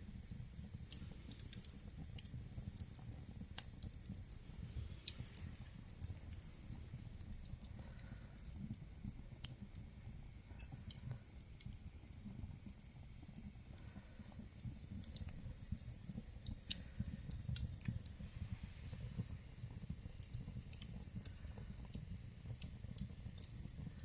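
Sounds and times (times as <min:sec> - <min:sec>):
low rumble of flames: 0:00.0 - 0:24.0
wood fire crackling: 0:00.0 - 0:24.0.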